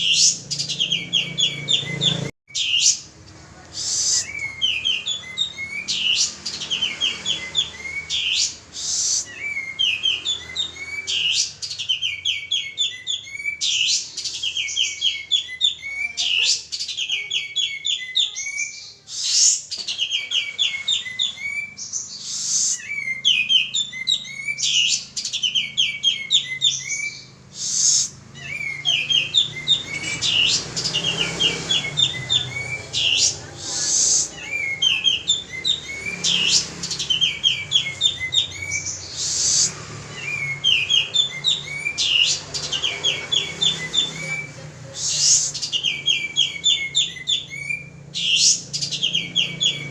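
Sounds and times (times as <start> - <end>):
bird singing chirping notes: 0.0 - 3.1, 3.8 - 49.9.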